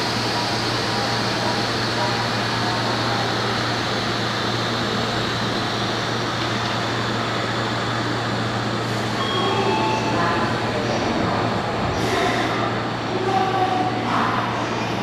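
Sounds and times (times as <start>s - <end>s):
train mechanical hum and hiss: 0.0s - 15.0s.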